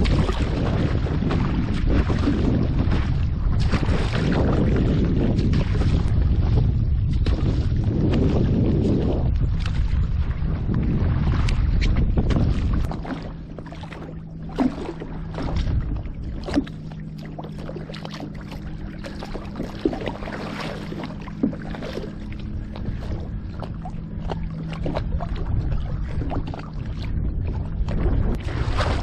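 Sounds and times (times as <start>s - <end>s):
water splashing against board: 0.0s - 27.2s, 27.8s - 29.0s
low hum: 0.0s - 29.0s.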